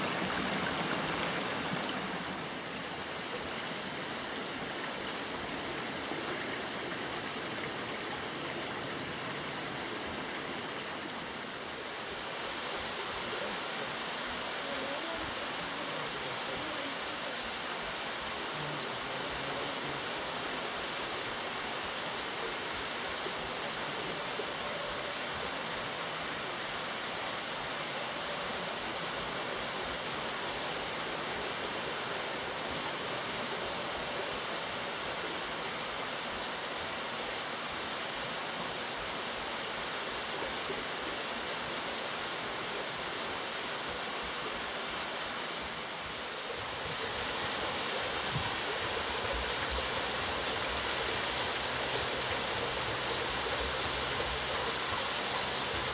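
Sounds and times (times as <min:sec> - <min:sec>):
water rushing through water wheel: 0:00.0 - 0:55.9.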